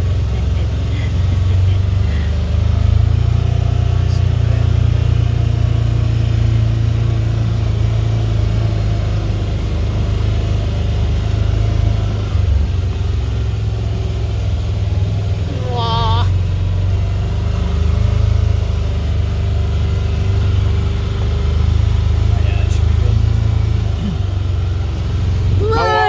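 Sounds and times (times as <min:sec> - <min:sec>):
farm vehicle engine rumbling: 0:00.0 - 0:26.0.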